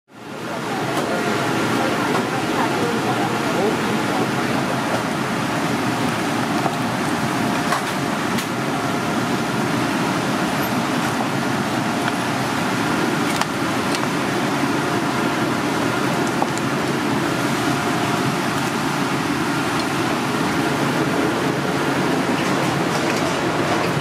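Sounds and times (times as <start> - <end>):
kitchen ventilation rushing: 0.2 - 24.0.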